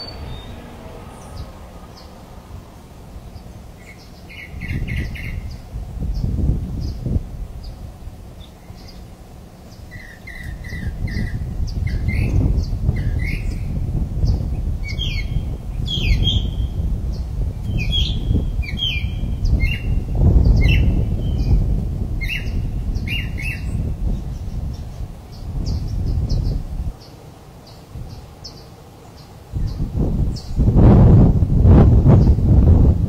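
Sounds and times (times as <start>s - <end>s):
birds chirping and whistling: 0.0s - 2.3s, 3.3s - 7.8s, 8.4s - 30.7s, 32.1s - 32.5s
constant low rumble: 0.0s - 33.0s.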